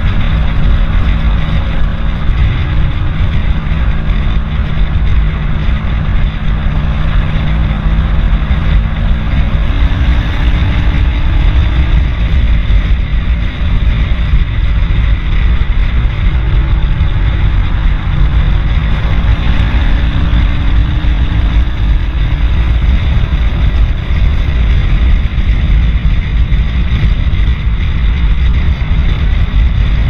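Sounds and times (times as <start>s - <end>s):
faint engine hum: 0.0s - 30.0s
road noise: 0.0s - 30.0s
wind rush on microphone: 0.0s - 30.0s.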